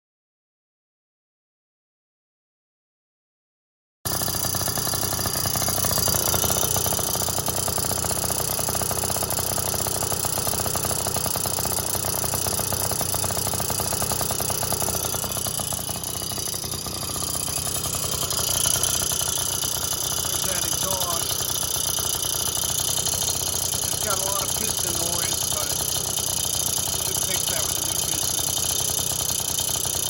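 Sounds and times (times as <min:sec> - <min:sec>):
moped engine idling with rattling: 0:04.1 - 0:30.0.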